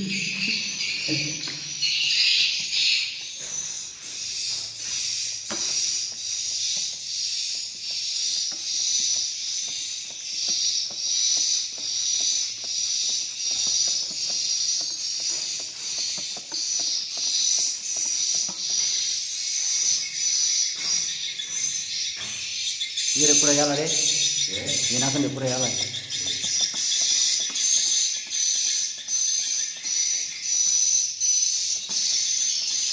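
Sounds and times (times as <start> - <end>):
swiftlet rasping chirring calls: 0.0 - 22.1, 22.9 - 32.9.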